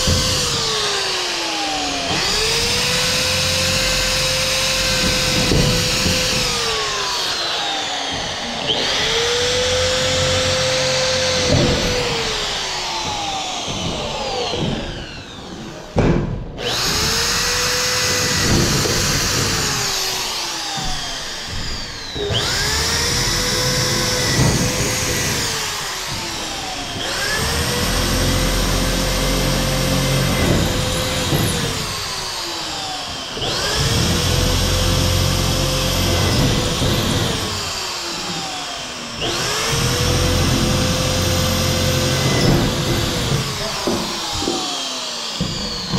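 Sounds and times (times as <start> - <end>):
electric screw gun whining: 0.0 - 16.0, 16.6 - 45.9.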